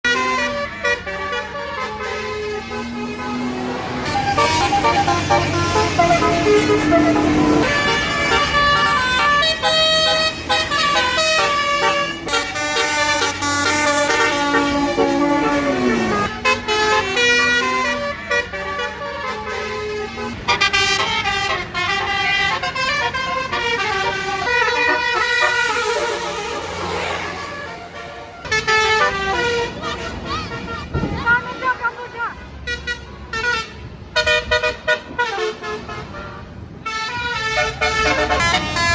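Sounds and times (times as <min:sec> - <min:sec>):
multi-tone bus air horn tune: 0:00.0 - 0:38.9.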